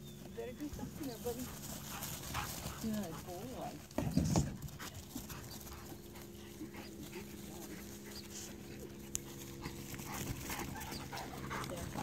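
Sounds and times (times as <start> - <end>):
dog panting: 0.6 - 12.0.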